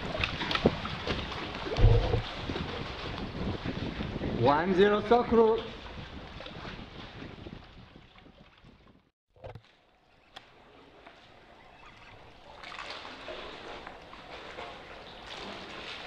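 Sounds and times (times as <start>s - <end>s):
water lapping around kayak: 0.0s - 16.0s.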